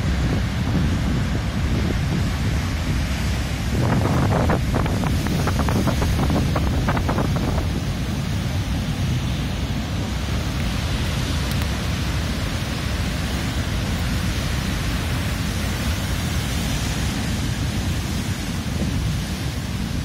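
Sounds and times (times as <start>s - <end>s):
ocean surf breaking on rocks: 0.0s - 20.0s
wind buffeting microphone: 0.0s - 20.0s.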